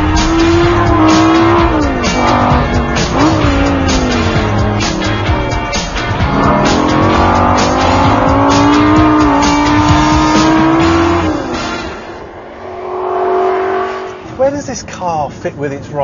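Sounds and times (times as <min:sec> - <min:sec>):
sports car engine revving: 0:00.0 - 0:14.4.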